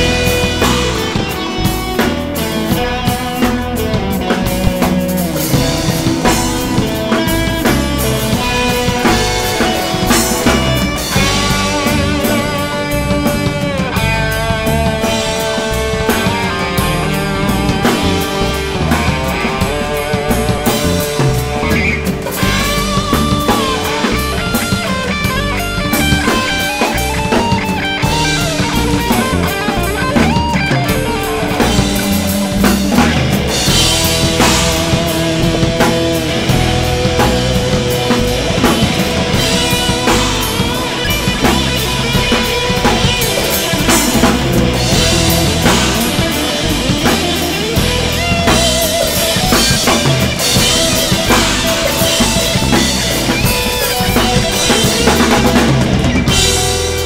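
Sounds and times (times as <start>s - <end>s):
drum kit: 0.0s - 57.0s
electric bass: 0.0s - 57.0s
electric guitars: 0.0s - 57.0s
lead guitar with bending notes: 0.0s - 57.0s.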